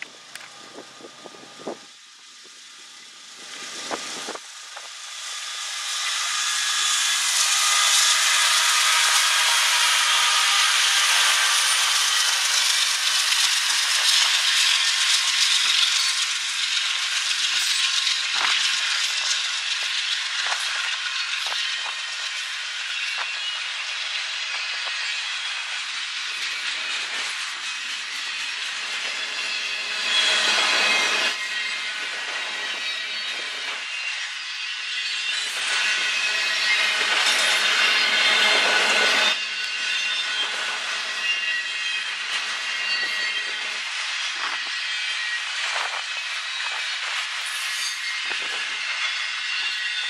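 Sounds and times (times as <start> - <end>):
freight train wheels rushing on rail: 0.0 - 50.0
high wheel squealing: 5.8 - 50.0.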